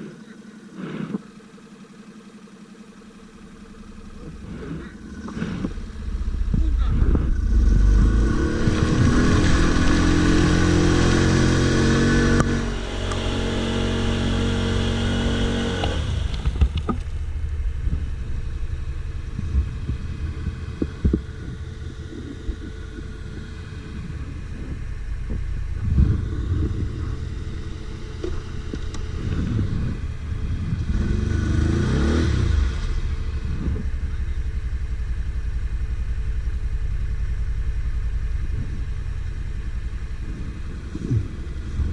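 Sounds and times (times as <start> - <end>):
atv engine revving: 3.4 - 41.9.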